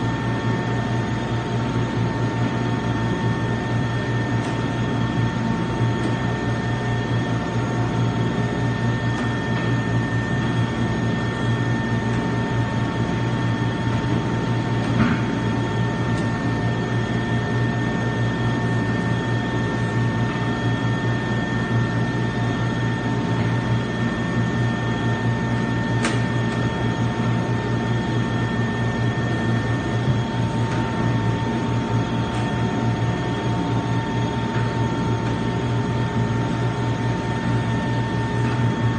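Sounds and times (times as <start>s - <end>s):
meat grinder motor whine: 0.0s - 38.9s.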